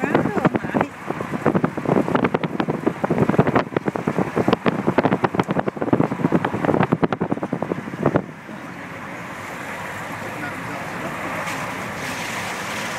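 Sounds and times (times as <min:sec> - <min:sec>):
road noise: 0:00.0 - 0:12.9
wind buffeting microphone: 0:00.0 - 0:12.9.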